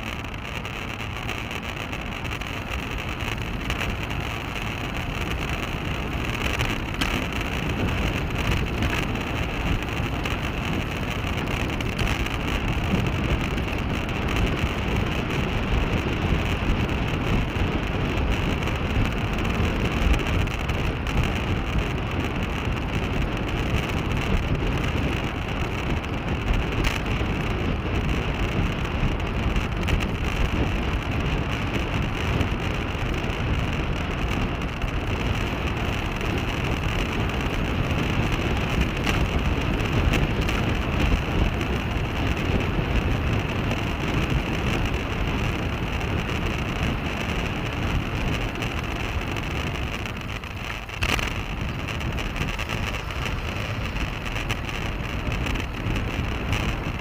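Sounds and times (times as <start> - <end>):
bicycle road noise: 0.0 - 57.0
wind rush: 0.0 - 57.0.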